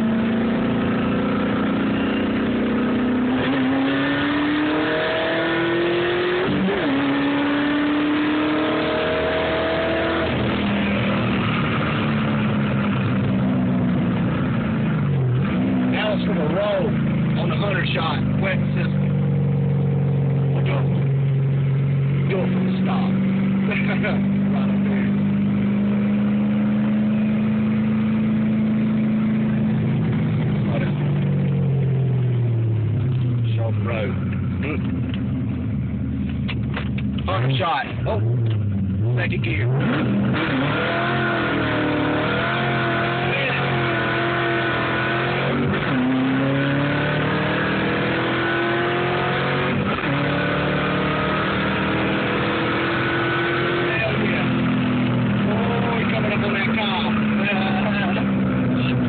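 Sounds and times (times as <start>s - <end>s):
car engine droning in cabin: 0.0s - 59.0s.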